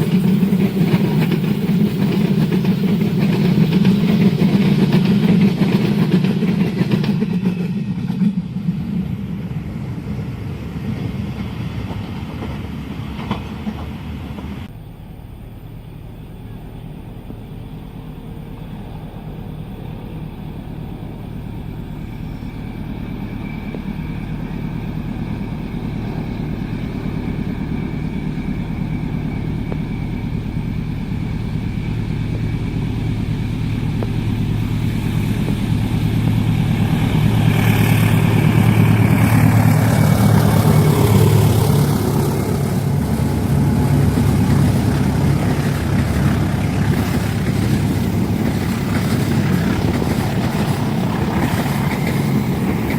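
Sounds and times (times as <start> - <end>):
diesel locomotive engine drone: 0.0 - 52.9
train wheel and rail noise: 0.0 - 52.9.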